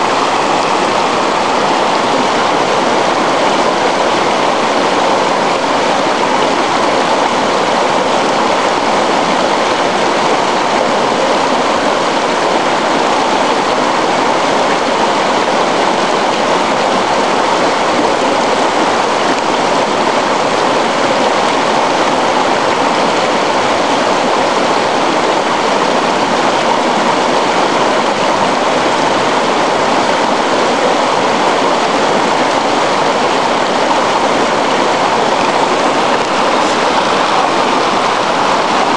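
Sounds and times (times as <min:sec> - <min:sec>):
river rushing over stones: 0:00.0 - 0:38.9.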